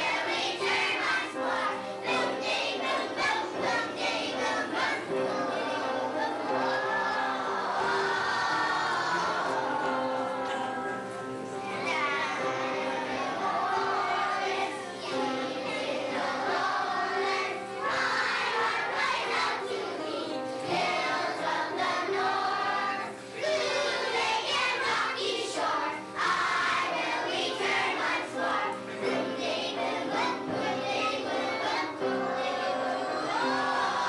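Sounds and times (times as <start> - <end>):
children singing together: 0.0 - 34.0
instrumental accompaniment: 0.0 - 34.0.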